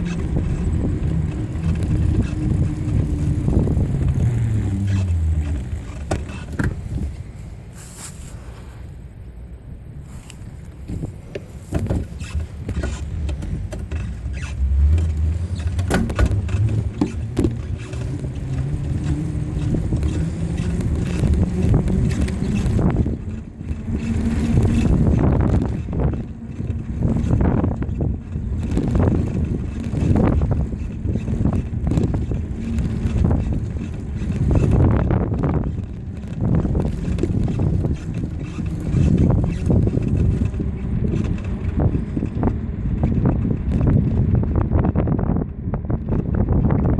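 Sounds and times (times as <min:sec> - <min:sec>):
bicycle knocks and rattles: 0:00.0 - 0:08.2, 0:10.2 - 0:46.9
low rumble: 0:00.0 - 0:46.9
wind buffeting microphone: 0:00.0 - 0:46.9.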